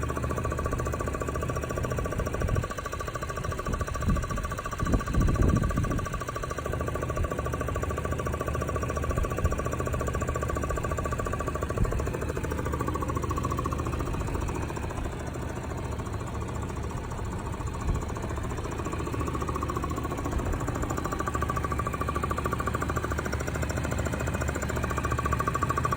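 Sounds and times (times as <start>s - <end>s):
engine knocking: 0.0s - 25.9s.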